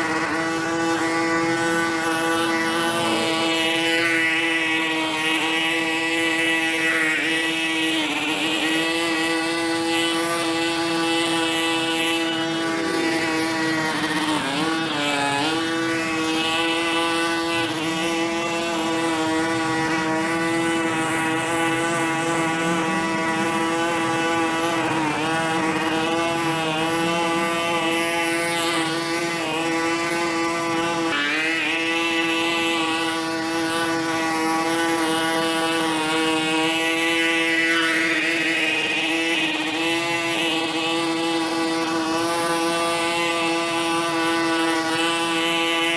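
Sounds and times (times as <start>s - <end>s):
small engine running at high speed: 0.0s - 45.9s.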